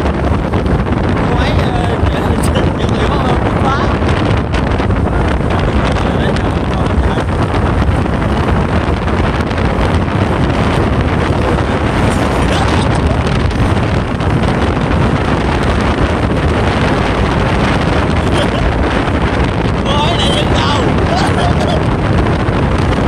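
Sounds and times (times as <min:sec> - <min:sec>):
vehicle road and engine noise: 0:00.0 - 0:23.0
wind buffeting microphone: 0:00.0 - 0:23.0.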